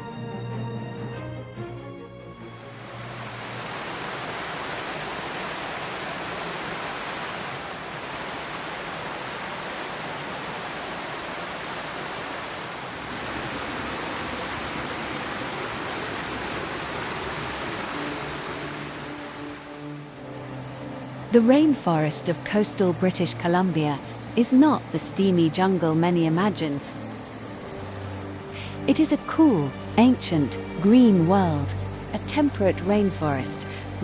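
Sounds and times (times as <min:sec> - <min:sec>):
flowing water rushing: 0:02.4 - 0:34.0.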